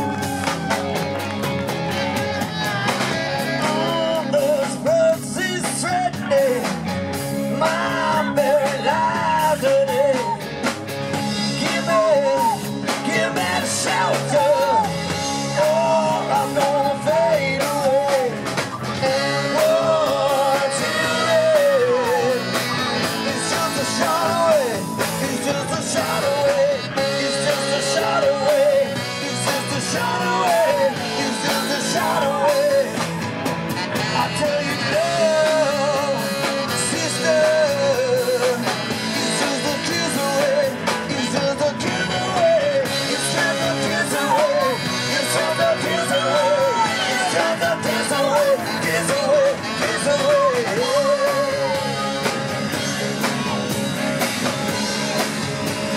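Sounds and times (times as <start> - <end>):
live rock band playing: 0.0 - 55.9
woman singing lead: 7.4 - 33.2, 33.9 - 53.6.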